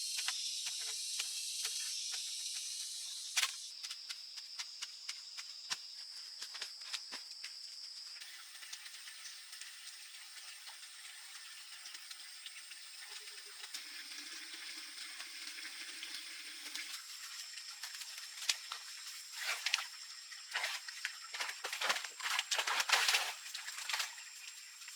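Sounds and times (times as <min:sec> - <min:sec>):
insects trilling: 0:00.0 - 0:24.9.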